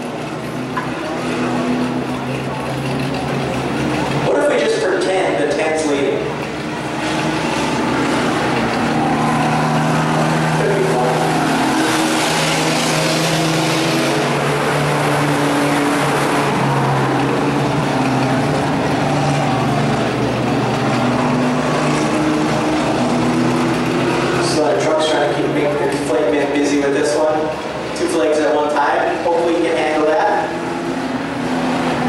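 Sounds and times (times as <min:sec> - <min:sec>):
race truck engines: 0:00.0 - 0:32.0.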